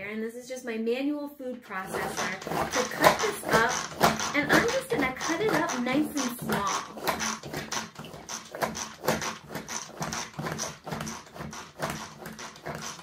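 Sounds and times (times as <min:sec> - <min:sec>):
pull-cord food processor chopping: 0:01.7 - 0:13.0.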